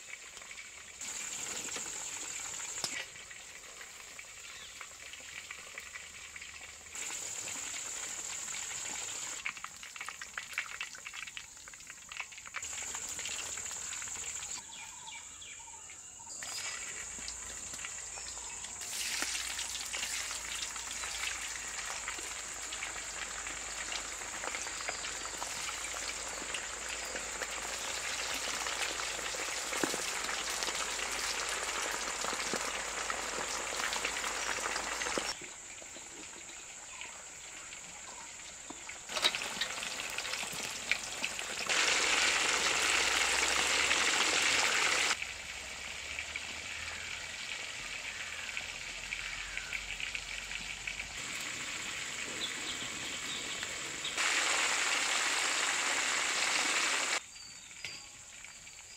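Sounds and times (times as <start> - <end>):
chicken deep-frying in oil: 0.0 - 15.1, 16.3 - 58.9.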